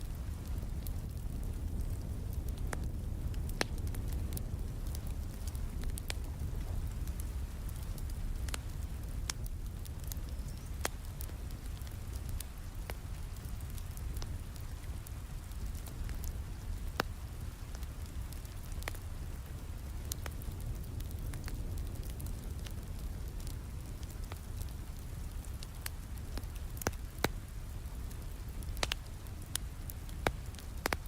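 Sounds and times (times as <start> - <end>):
sharp pops of fire: 0.0 - 31.0
steady rain: 0.0 - 31.0
wood fire crackling: 0.0 - 31.0.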